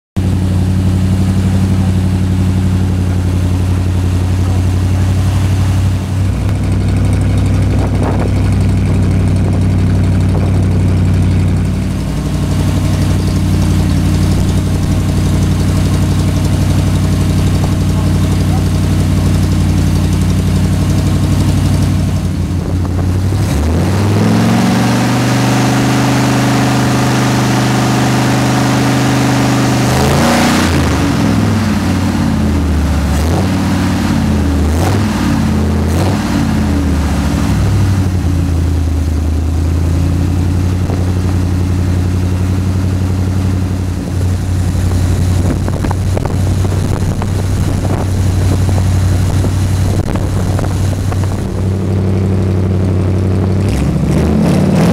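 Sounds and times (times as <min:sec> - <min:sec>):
car engine revving: 0:00.2 - 0:54.9.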